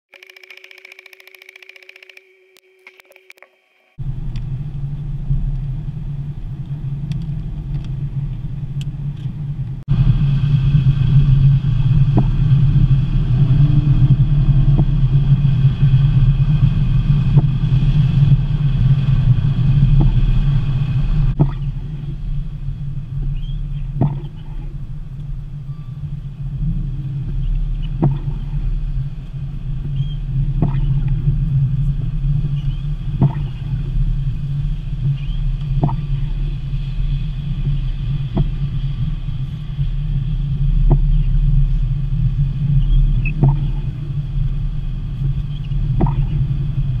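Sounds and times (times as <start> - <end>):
car engine and road noise: 3.9 - 47.0.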